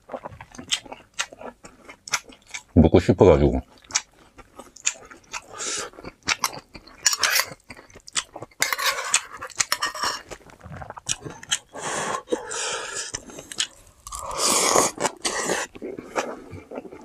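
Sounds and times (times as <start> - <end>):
person chewing and crunching food: 0.0 - 2.8, 3.6 - 17.0.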